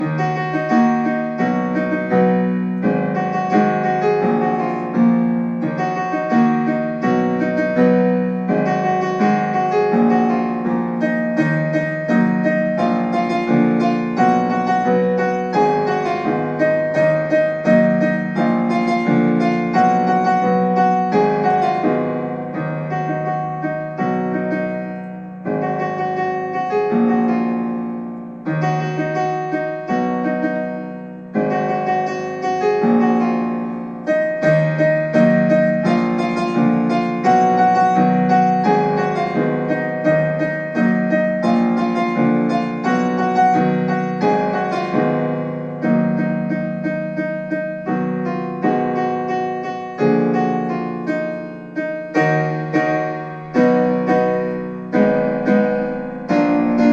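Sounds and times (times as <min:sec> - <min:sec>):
piano melody over chords: 0:00.0 - 0:56.9.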